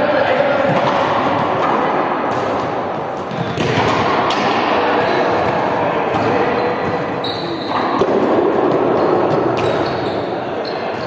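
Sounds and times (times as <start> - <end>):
busy echoing background: 0.0 - 11.0
balls bouncing on floor: 0.6 - 10.2.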